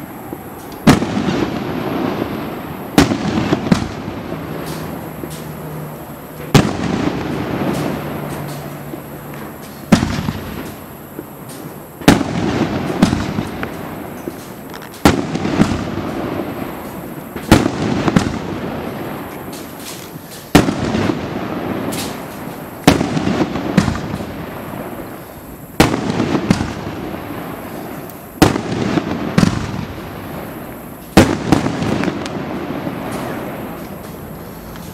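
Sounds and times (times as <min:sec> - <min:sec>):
fireworks bangs: 0:00.0 - 0:34.9
fireworks crackling: 0:00.0 - 0:34.9.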